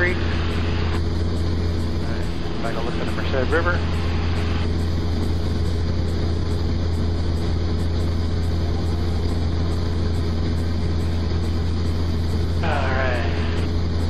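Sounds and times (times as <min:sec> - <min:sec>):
airplane engine droning in cockpit: 0:00.0 - 0:14.0.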